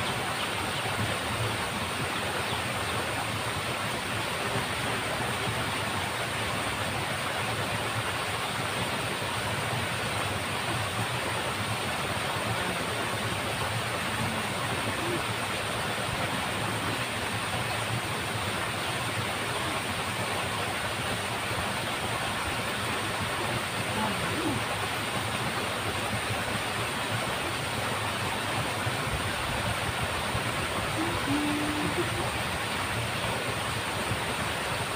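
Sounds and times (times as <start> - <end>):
water flowing in a ditch: 0.0 - 34.9.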